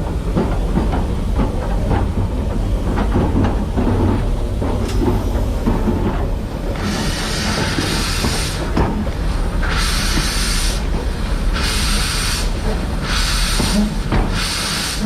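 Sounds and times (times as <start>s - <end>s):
regular locomotive knocks: 0.0s - 15.0s
steam hissing: 0.0s - 15.0s
steam locomotive rumbling: 0.0s - 15.0s.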